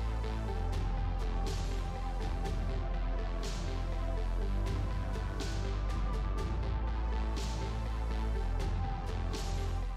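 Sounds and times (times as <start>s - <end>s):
electronic music with heavy bass: 0.0s - 9.9s.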